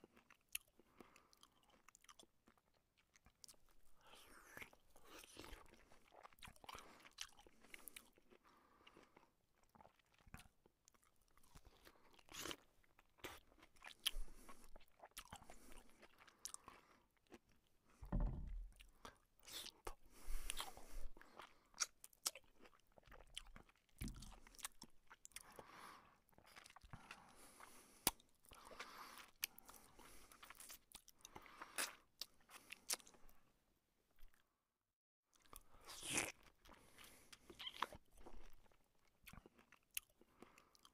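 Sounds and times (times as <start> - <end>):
chewing with mouth clicks: 0.0 - 17.7, 18.8 - 33.2, 35.3 - 40.9.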